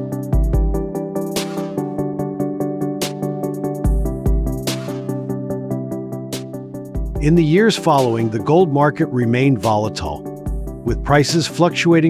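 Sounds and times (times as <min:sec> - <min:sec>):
synthesizer chords: 0:00.0 - 0:12.0.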